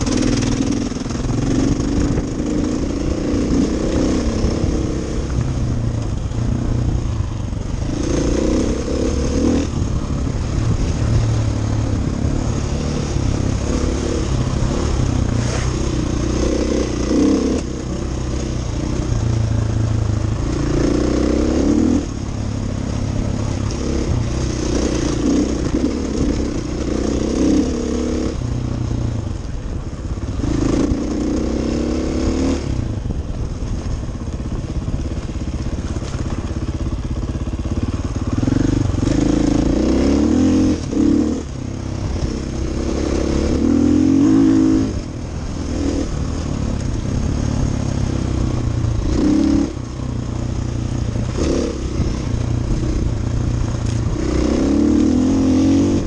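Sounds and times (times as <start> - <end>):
dirt bike engine revving: 0.0 - 5.4, 7.6 - 28.4, 30.4 - 32.8, 38.0 - 56.0.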